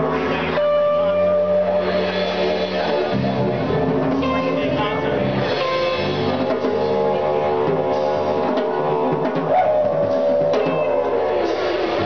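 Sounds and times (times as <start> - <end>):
didgeridoo droning: 0.0 - 12.0
drum kit beat: 0.0 - 12.0.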